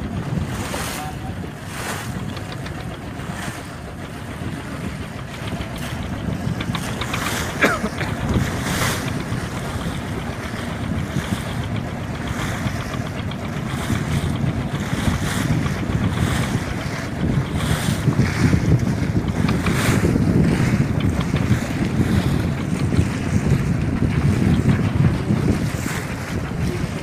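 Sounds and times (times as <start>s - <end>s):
sea water sloshing and splashing: 0.0s - 27.0s
steady low rumble: 0.0s - 27.0s
wind blowing across microphone: 0.0s - 27.0s.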